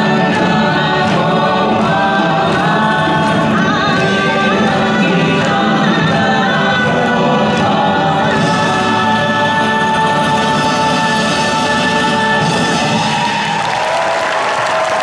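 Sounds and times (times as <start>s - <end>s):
choir singing: 0.0s - 13.7s
background music: 0.0s - 15.0s.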